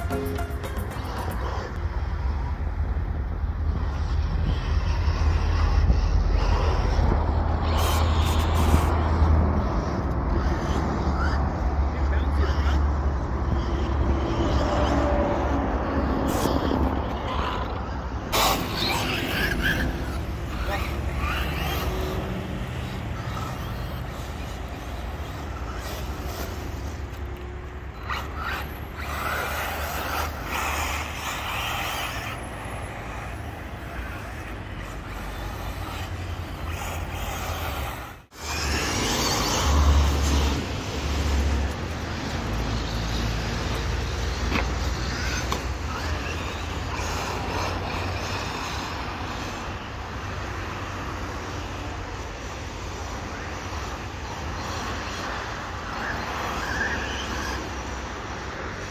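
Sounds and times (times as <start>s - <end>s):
rc car engines buzzing: 0.0s - 58.9s.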